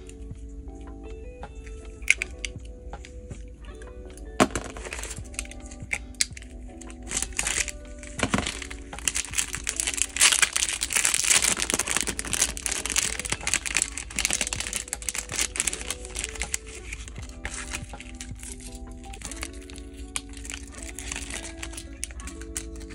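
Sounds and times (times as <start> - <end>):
background music with held notes: 0.0 - 22.9
plastic packaging crinkling: 2.0 - 2.5, 4.4 - 22.9.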